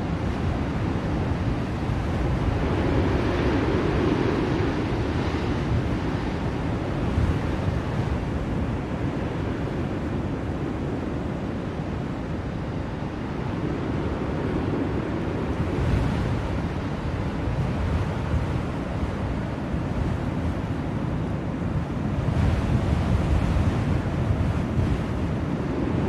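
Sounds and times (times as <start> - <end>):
blizzard wind gusting: 0.0 - 26.0.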